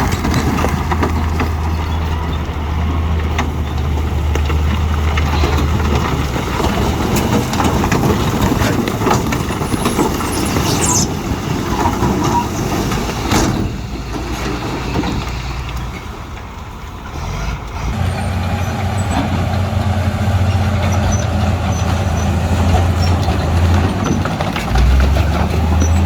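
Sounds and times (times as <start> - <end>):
heavy diesel machinery engine: 0.0 - 26.0
machinery clatter: 0.0 - 26.0.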